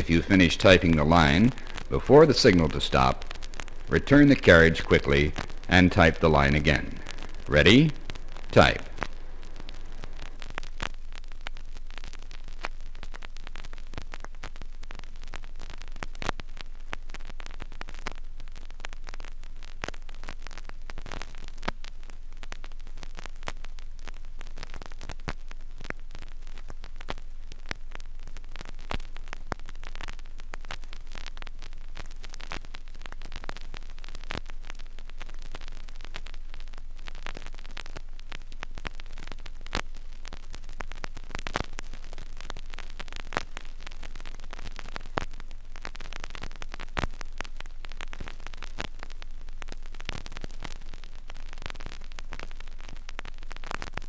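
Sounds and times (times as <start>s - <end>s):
vinyl crackles and pops: 0.0s - 54.0s
vinyl hiss and hum: 0.0s - 54.0s.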